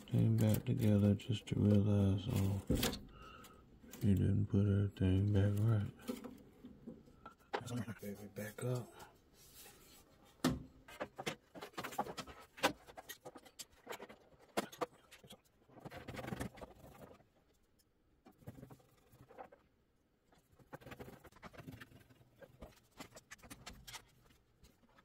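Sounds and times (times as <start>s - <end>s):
plastic parts clicking and knocking: 0.0s - 4.3s, 5.1s - 7.9s, 10.4s - 19.7s, 20.4s - 25.0s.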